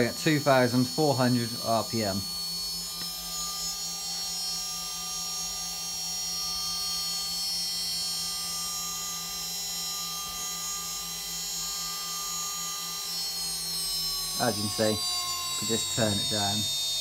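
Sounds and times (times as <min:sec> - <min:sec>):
spindle motor whining: 0:00.0 - 0:17.0.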